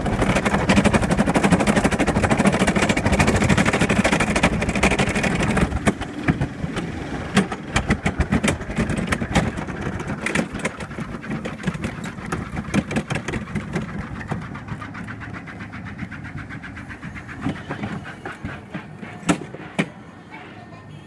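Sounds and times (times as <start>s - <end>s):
sharp knocks and clicks: 0.0s - 20.0s
sled rumbling down metal trough: 0.0s - 20.6s.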